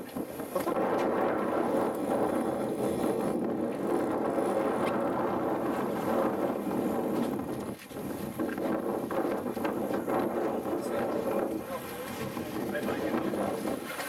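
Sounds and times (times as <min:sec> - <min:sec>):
boat engine: 0:00.0 - 0:14.0
water: 0:00.0 - 0:14.0
wind buffeting microphone: 0:00.0 - 0:14.0.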